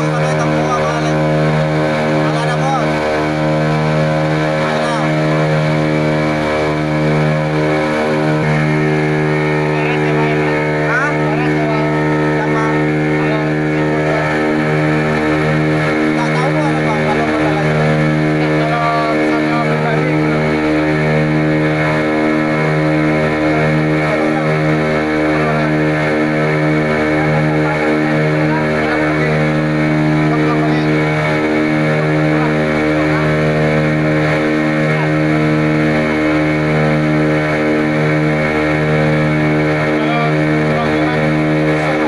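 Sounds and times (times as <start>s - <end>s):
boat engine running steadily: 0.0s - 42.0s.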